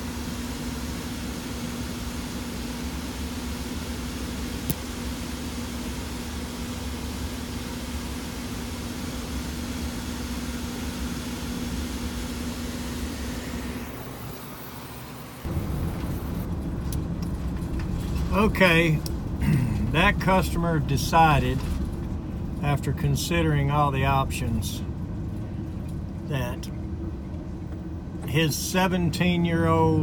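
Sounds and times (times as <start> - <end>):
machine hum: 3.3 - 30.0.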